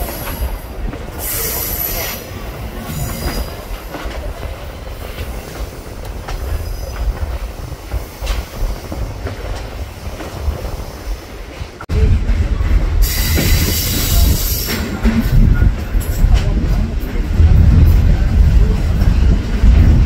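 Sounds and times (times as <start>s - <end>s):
train cars rumbling on rails: 0.0s - 20.0s.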